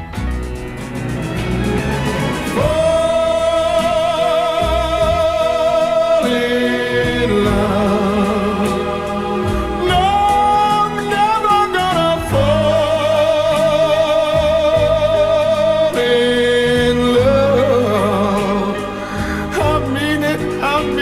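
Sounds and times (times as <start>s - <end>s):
band accompaniment: 0.0s - 21.0s
person singing pop ballad: 1.9s - 21.0s.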